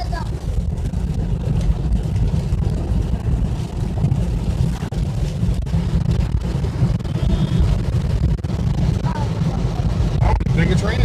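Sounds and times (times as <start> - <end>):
road and engine rumble in cabin: 0.0 - 11.0.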